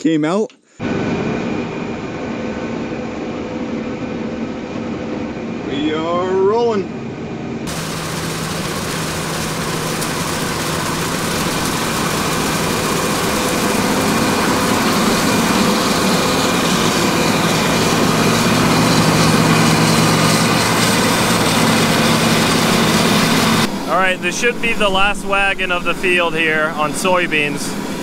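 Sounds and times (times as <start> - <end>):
combine harvester droning: 0.8 - 28.0.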